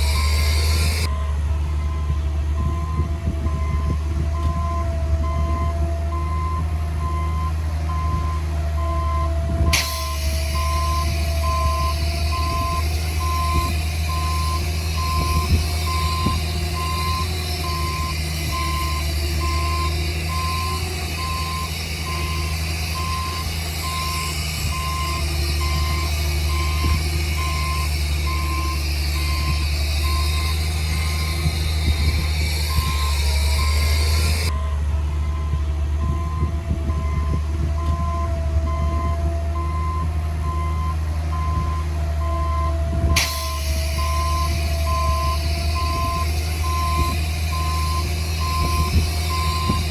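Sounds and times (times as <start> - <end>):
diesel engine rumble: 0.0 - 49.9
reversing alarm beeping: 0.0 - 49.9.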